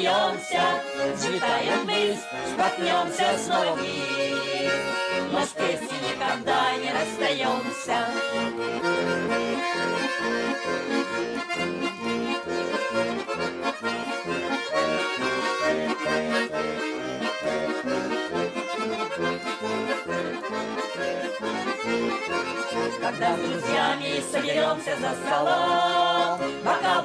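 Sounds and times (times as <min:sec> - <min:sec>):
accordion music: 0:00.0 - 0:27.0.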